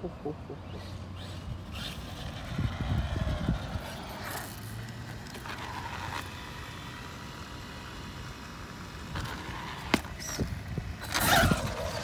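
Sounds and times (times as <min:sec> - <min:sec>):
rc truck electric motor whine: 0:00.8 - 0:12.0.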